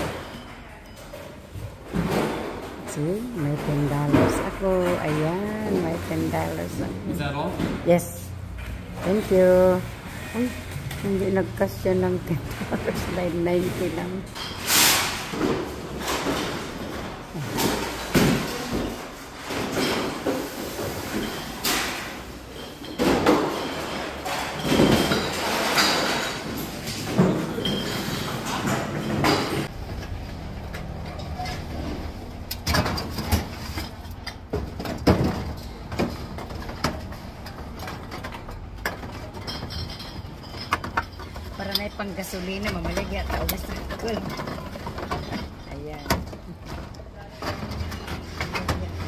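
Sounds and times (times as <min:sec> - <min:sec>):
bottles and cans rattling in cart: 0:00.0 - 0:49.0.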